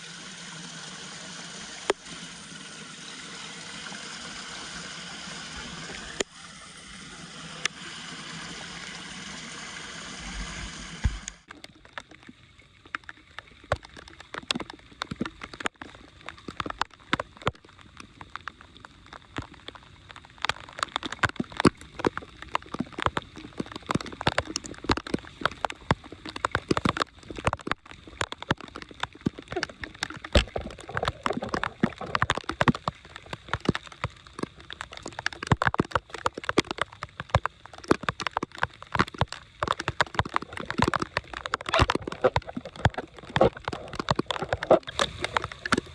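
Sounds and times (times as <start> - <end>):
water gurgling and splashing: 0.0 - 45.9
water rushing: 0.0 - 45.9.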